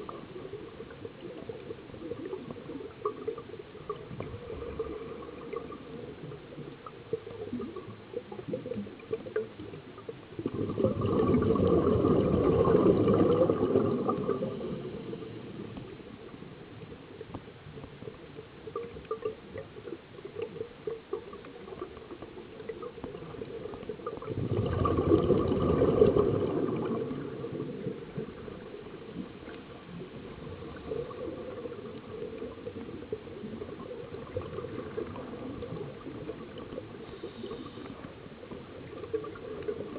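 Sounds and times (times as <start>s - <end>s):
faint crackle: 0.0s - 39.9s
underwater bubbles gurgling: 0.0s - 39.9s.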